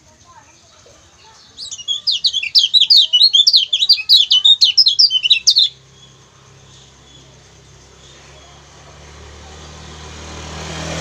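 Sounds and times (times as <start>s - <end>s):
bird chirping song: 0.0s - 10.0s.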